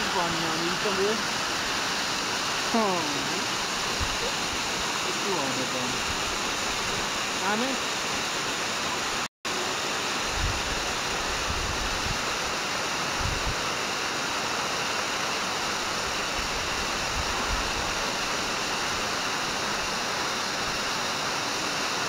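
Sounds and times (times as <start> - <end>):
waterfall rushing and splashing: 0.0 - 22.0.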